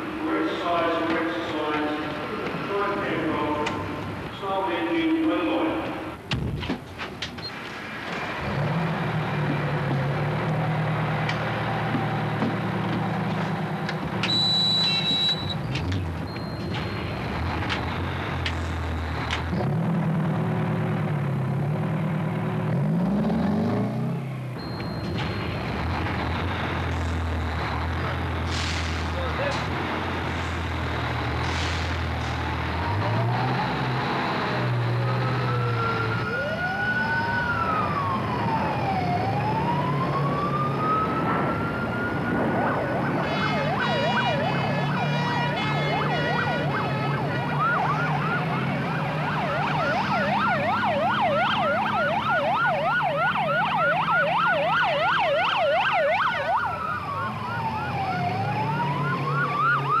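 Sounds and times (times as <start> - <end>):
fire truck sirens wailing: 0.0 - 6.3, 7.5 - 60.0
fire truck engines: 0.0 - 60.0.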